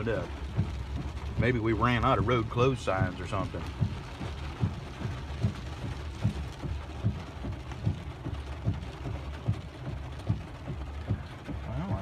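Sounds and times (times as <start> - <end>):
engine and road rumble: 0.0 - 12.0
rain on a vehicle: 0.0 - 12.0
windshield wipers thumping: 0.0 - 12.0.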